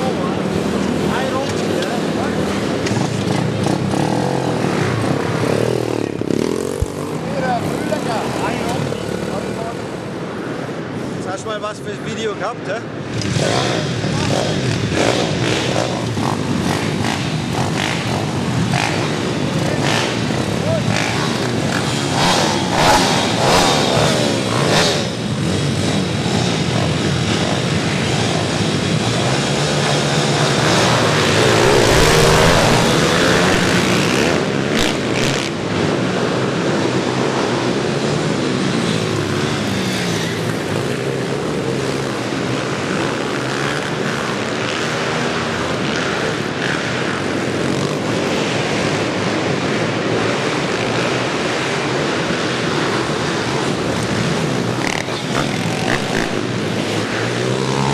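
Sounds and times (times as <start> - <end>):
pit bike engines revving: 0.0 - 57.9.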